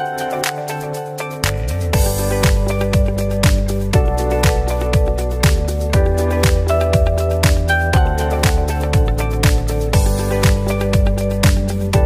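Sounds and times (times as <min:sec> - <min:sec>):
electronic music: 0:00.0 - 0:12.0
steady kick drum beat: 0:01.4 - 0:12.0.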